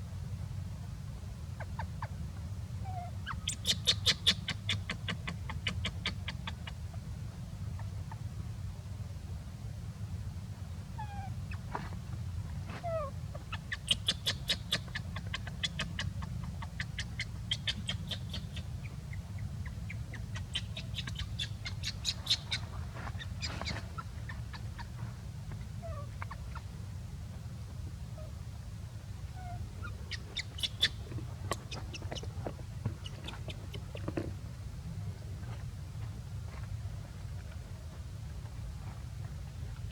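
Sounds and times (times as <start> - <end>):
steady low rumble: 4.4 - 39.9.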